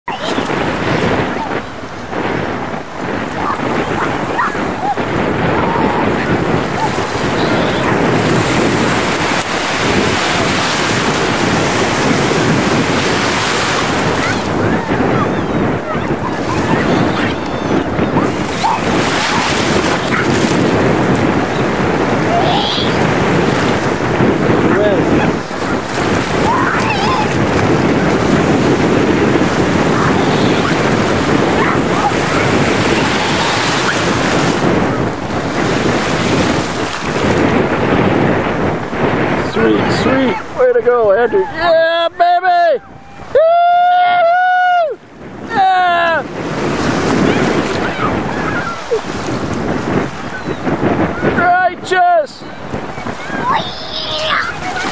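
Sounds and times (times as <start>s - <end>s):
rushing water and waves: 0.0s - 54.9s
wind buffeting microphone: 0.0s - 54.9s.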